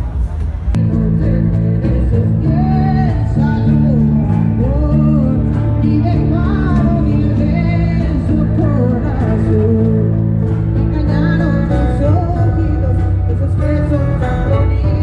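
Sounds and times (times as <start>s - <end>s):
guitar and bass: 0.0s - 15.0s
person singing: 0.8s - 15.0s.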